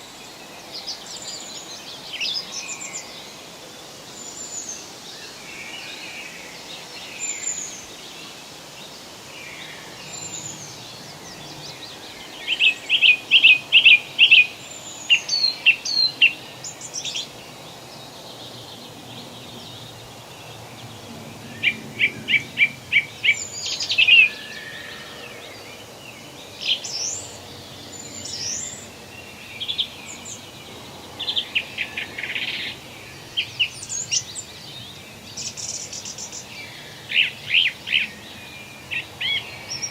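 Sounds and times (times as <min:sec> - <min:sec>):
background hiss: 0:00.0 - 0:39.9
forest birds singing: 0:00.0 - 0:39.9.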